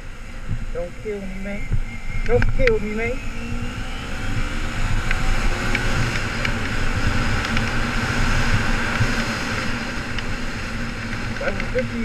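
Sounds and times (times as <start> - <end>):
motorcycle engine running hard: 0.0 - 12.0
wind rushing over helmet camera: 0.0 - 12.0.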